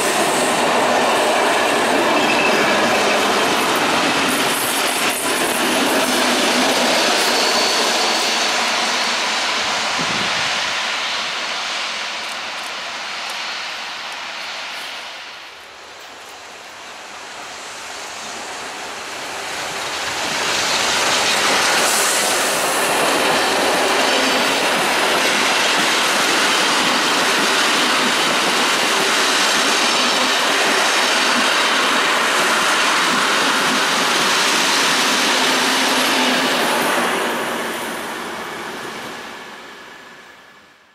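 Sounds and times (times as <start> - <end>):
train wheels and carriages rolling: 0.0 - 40.9.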